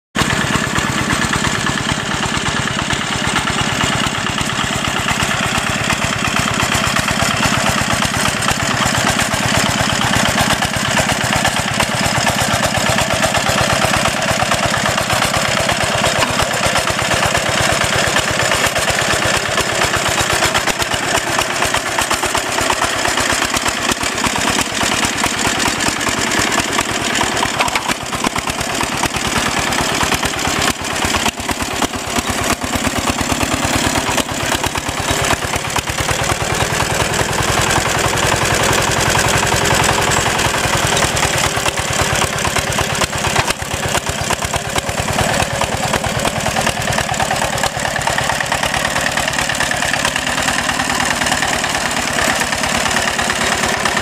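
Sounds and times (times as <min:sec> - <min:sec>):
diesel engine running: 0:00.2 - 0:54.0.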